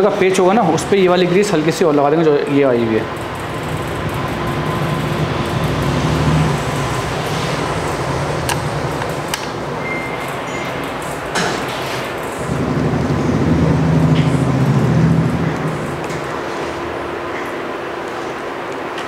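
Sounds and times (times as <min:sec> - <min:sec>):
mechanical drone and hiss: 0:00.0 - 0:19.0.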